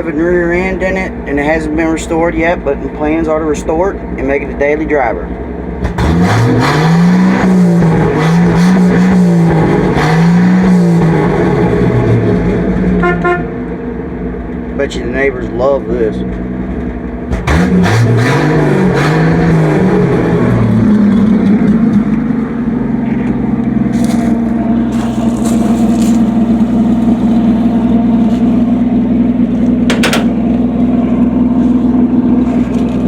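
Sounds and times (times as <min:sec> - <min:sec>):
truck engine revving and idling: 0:00.0 - 0:33.0.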